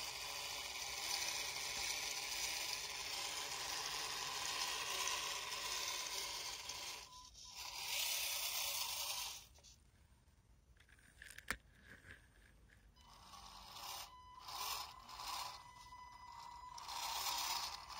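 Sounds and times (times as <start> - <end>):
toy truck electric motor hiss: 0.0 - 9.8, 13.0 - 17.9.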